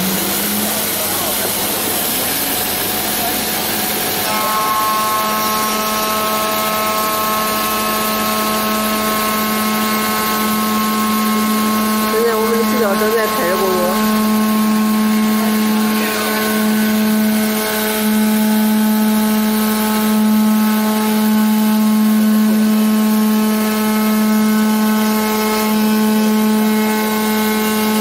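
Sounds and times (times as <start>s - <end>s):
cnc spindle whine: 0.0s - 28.0s.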